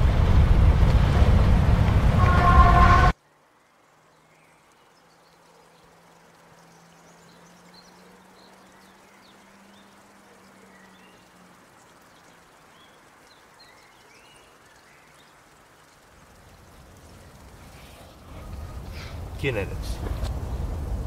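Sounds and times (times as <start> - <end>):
soft steady hiss: 3.1 - 21.0
small birds chirping: 3.3 - 21.0.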